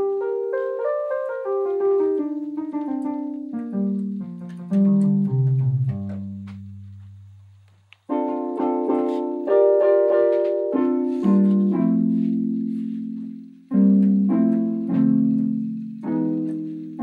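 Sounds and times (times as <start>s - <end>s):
piano chords: 0.0s - 7.4s, 8.1s - 17.0s.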